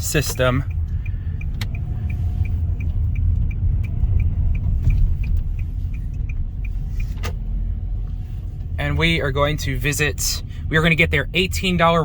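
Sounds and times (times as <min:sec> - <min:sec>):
car engine rumble: 0:00.0 - 0:12.0
faint regular ticking: 0:00.0 - 0:12.0.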